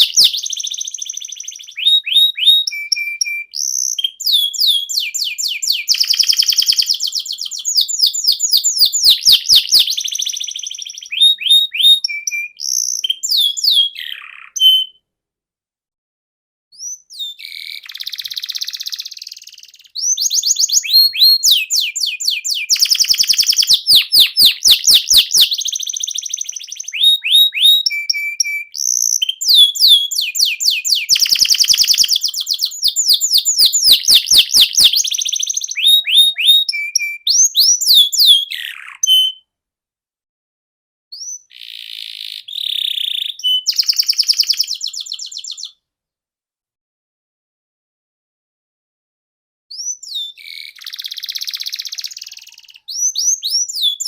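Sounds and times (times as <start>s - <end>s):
canary singing trills: 0.0s - 15.0s, 16.8s - 39.4s, 41.2s - 45.8s, 49.7s - 54.0s.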